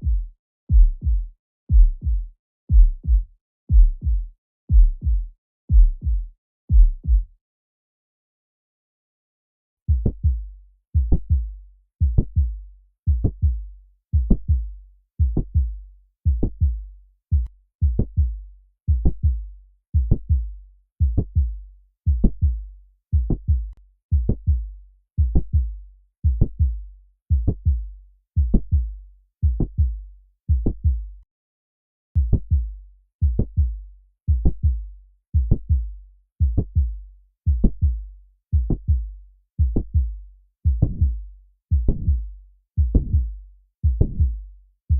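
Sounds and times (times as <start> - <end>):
heart beating with clicks: 0.0 - 7.4, 9.9 - 10.4, 11.0 - 31.2, 32.2 - 44.5.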